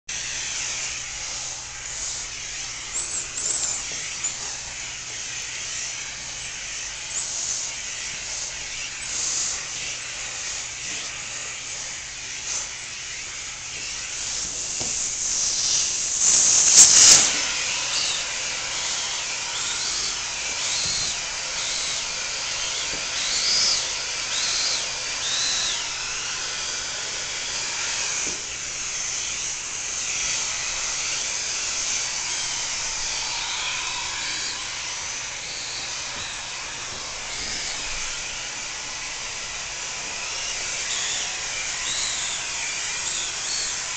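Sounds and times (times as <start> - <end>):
vacuum cleaner suction hissing: 0.1 - 43.9.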